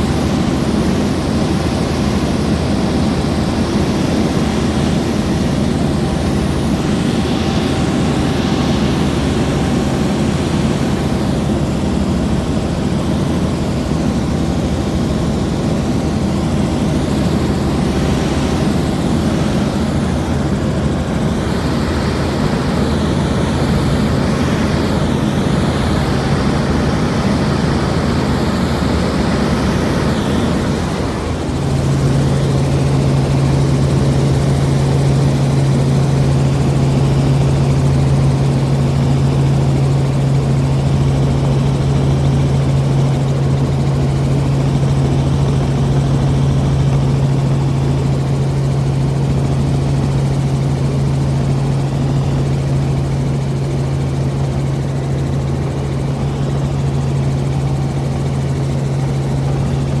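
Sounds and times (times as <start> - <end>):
helicopter rotor and engine drone: 0.0 - 60.0.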